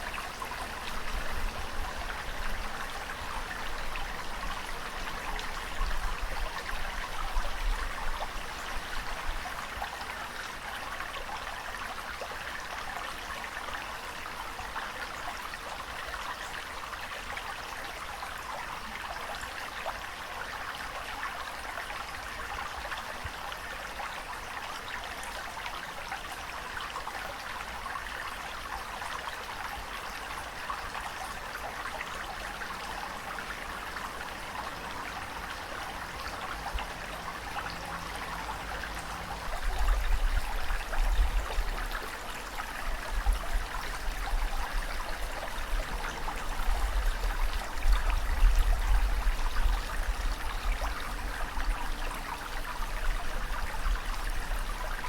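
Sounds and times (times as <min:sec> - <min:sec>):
water flowing and trickling: 0:00.0 - 0:55.0.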